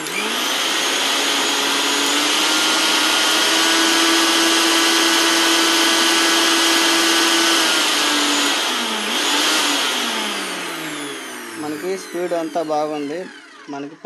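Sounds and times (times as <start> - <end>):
mixer grinder motor whine: 0.0 - 14.0.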